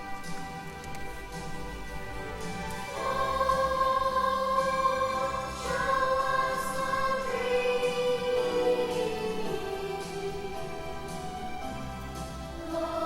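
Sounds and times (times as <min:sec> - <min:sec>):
choir singing long held notes: 0:00.0 - 0:13.0.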